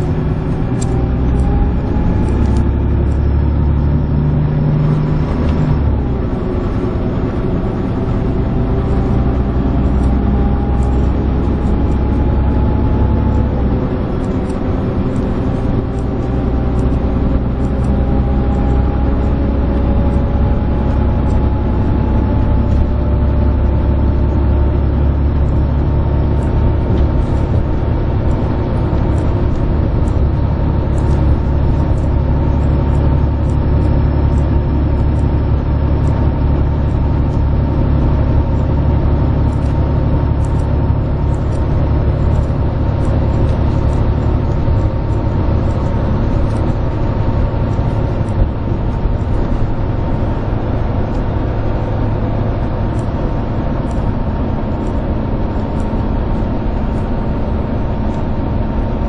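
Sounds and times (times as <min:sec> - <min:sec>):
diesel engine drone: 0:00.0 - 0:59.0
faint rising whine: 0:00.0 - 0:59.0
tyre and road noise: 0:00.0 - 0:59.0.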